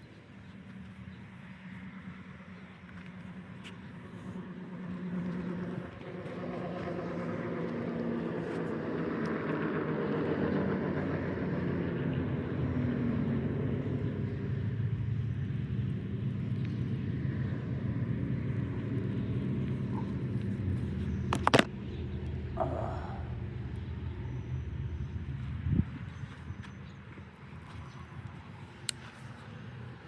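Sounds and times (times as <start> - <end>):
distant engine droning: 0.0 - 30.0.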